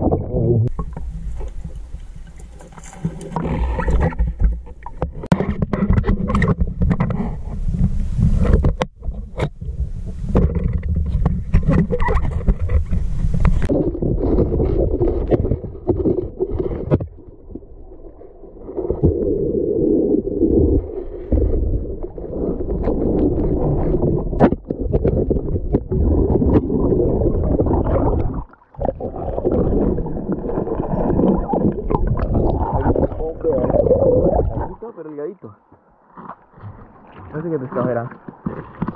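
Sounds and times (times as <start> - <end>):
underwater rumbling and gurgling: 0.0 - 38.9.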